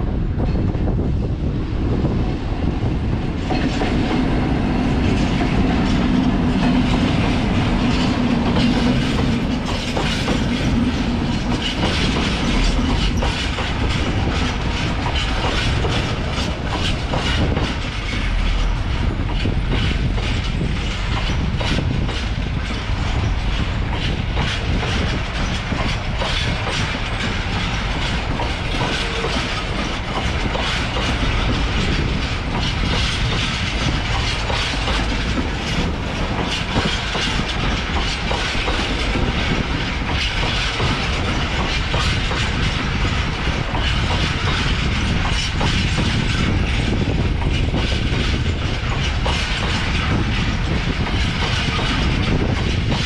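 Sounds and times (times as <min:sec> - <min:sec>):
freight train wheels clicking over rail joints: 0:02.1 - 0:53.0.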